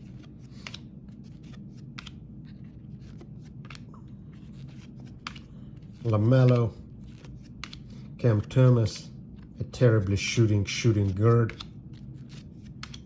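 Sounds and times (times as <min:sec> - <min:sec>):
cards clicking and swishing: 0:00.0 - 0:13.0
low steady hum: 0:00.0 - 0:13.0.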